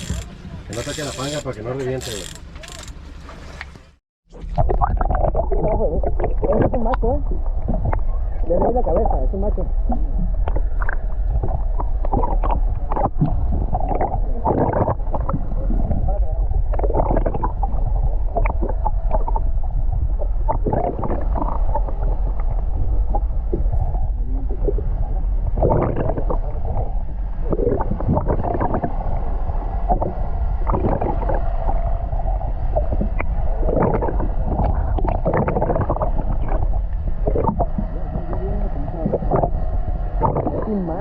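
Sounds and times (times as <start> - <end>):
wind rumbling on microphone: 0.0 - 3.0, 4.3 - 41.0.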